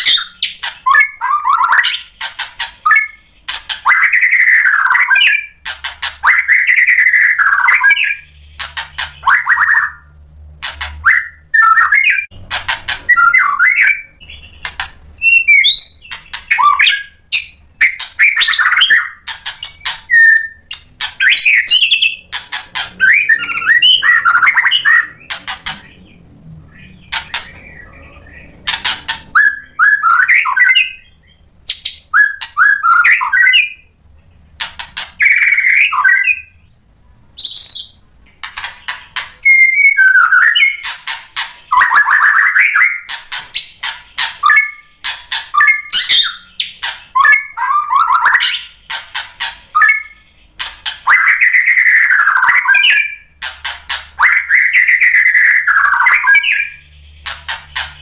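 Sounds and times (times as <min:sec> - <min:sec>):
bird singing varied song: 0:00.0 - 0:36.8, 0:37.4 - 0:58.0.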